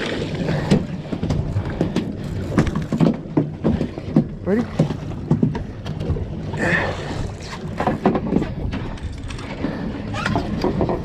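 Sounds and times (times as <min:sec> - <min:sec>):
boat motor hum: 0:00.0 - 0:11.0
knocks and splashes: 0:00.0 - 0:11.0
wind and water noise: 0:00.0 - 0:11.0.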